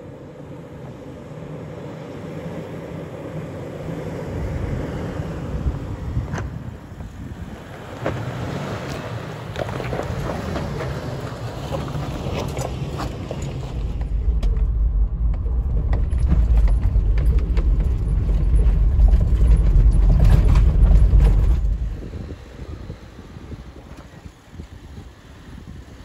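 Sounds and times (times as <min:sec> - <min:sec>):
vehicle low rumble: 0:00.0 - 0:26.0.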